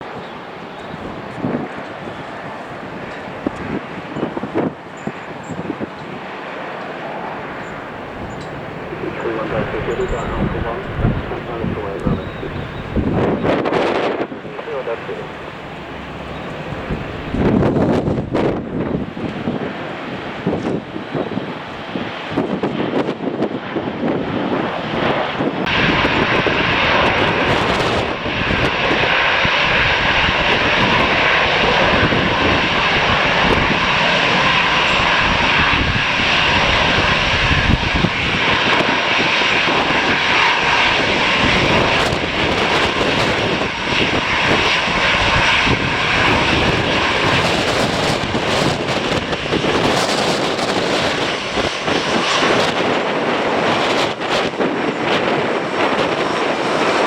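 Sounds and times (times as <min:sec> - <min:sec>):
airliner engines running: 0:00.0 - 0:57.0
wind buffeting microphone: 0:00.0 - 0:57.0.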